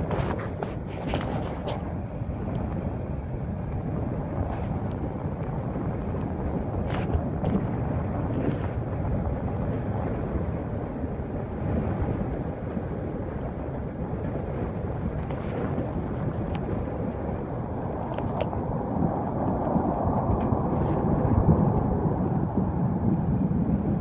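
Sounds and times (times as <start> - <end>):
jet aircraft rumble: 0.0 - 24.0.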